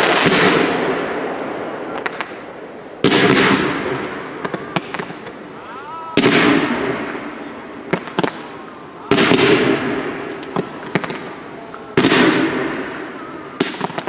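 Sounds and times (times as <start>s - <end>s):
sharp firework pops: 0.0s - 5.4s, 6.2s - 14.0s
firework booms: 0.0s - 14.0s.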